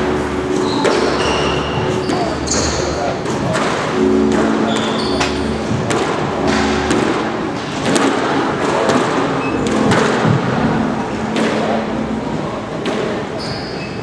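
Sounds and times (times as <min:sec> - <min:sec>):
court hall background noise: 0:00.0 - 0:14.0
squash ball hits: 0:00.6 - 0:11.9.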